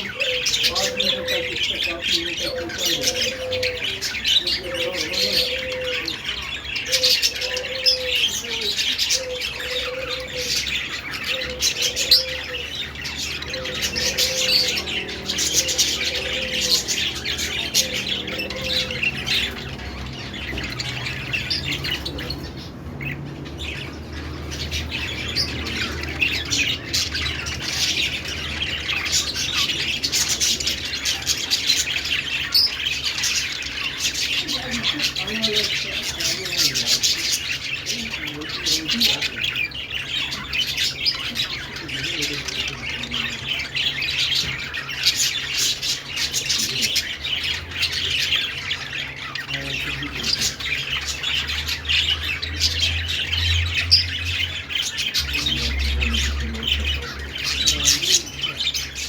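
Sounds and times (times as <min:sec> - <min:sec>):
budgerigars chirping and warbling: 0:00.0 - 0:59.0.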